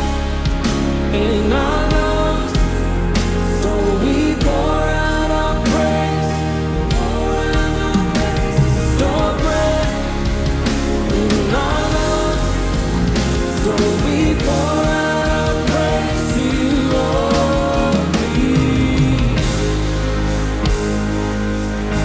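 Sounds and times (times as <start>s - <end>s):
live band playing slow rock song: 0.0s - 22.0s.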